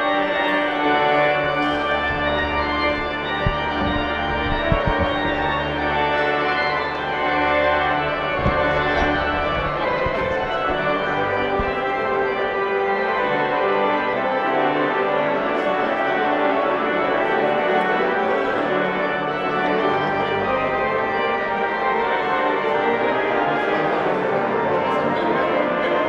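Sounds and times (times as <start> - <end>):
organ music: 0.0 - 26.0.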